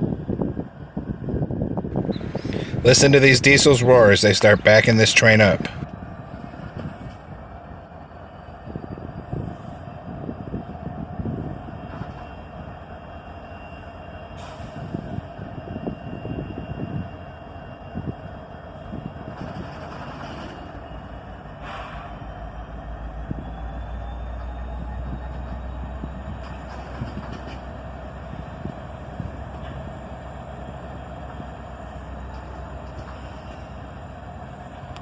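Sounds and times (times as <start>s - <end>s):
locomotive engines rumbling: 0.0s - 35.0s.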